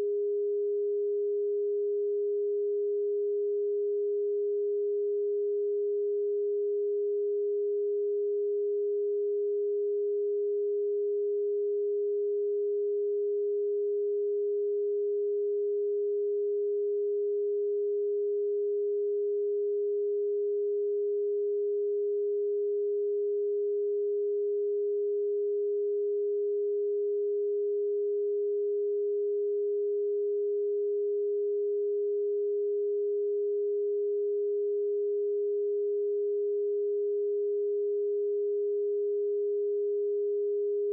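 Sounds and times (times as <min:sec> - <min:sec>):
pure sine tone: 0:00.0 - 0:40.9.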